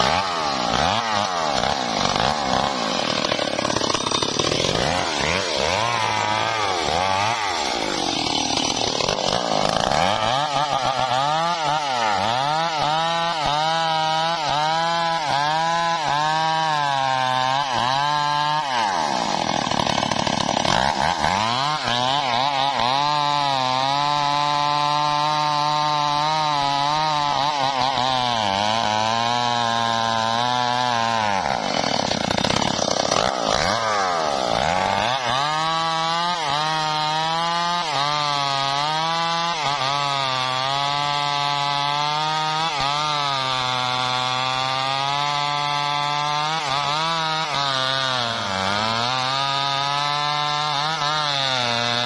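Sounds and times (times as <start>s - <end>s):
chainsaw cutting into tree trunk: 0.0s - 52.0s.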